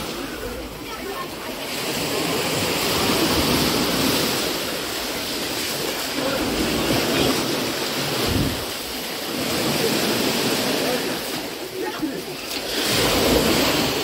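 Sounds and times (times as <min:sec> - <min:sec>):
small waves washing on sand: 0:00.0 - 0:14.0.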